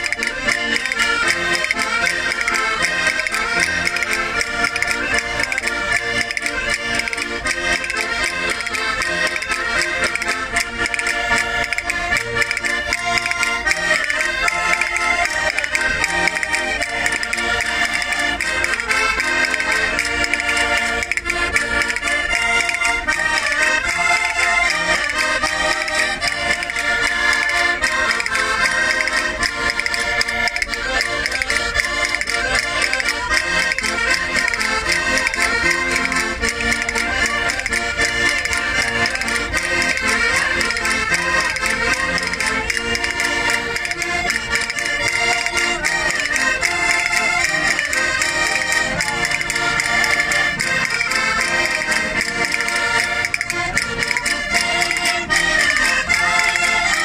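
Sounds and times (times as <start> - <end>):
button accordions playing folk tune: 0.0 - 57.0.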